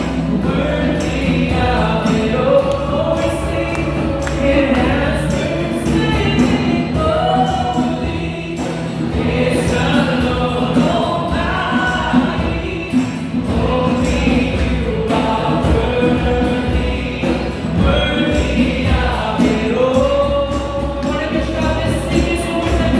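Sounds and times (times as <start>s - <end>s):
choir singing with band: 0.0s - 22.9s
percussion beat: 0.0s - 22.9s.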